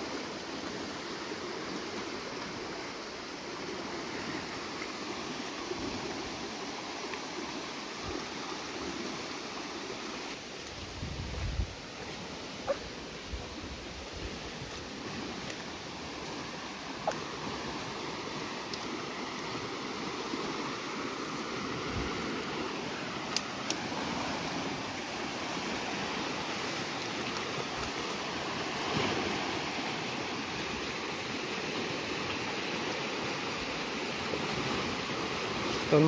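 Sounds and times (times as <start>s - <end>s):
flooded stream rushing: 0.0s - 36.0s.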